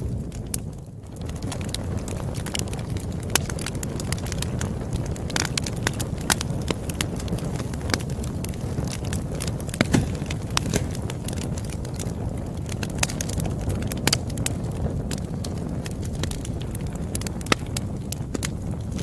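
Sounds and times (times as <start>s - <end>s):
campfire crackling and popping: 0.0s - 19.0s
low rumble of burning wood: 0.0s - 19.0s.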